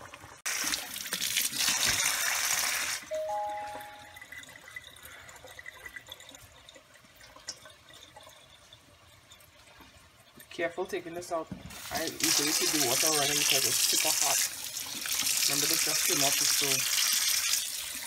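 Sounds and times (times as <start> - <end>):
tap water pouring into colander: 0.0 - 11.0, 11.6 - 18.0.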